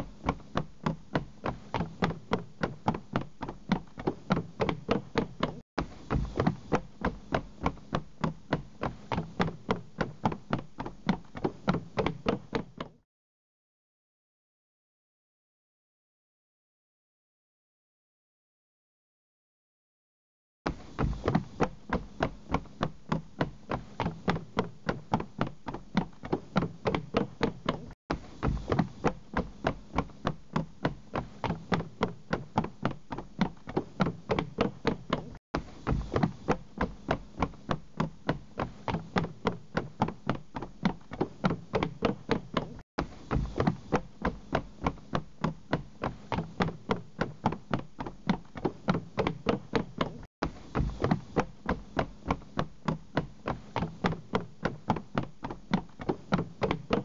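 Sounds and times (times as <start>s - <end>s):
running footsteps on wooden planks: 0.0s - 13.0s, 20.7s - 57.0s.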